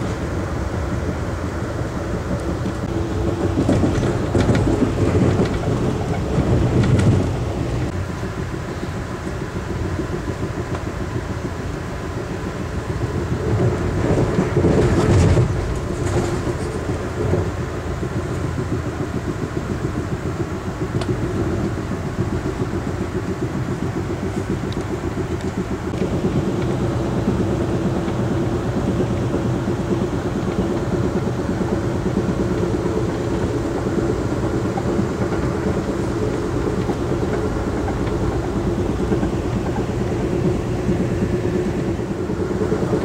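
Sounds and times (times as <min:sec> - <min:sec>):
train body rattle: 0:00.0 - 0:43.0
train wheels on rails rumbling: 0:00.0 - 0:43.0.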